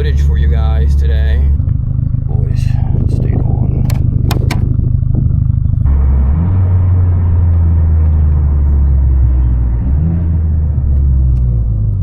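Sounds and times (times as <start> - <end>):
car exhaust drone while driving: 0.0 - 12.0.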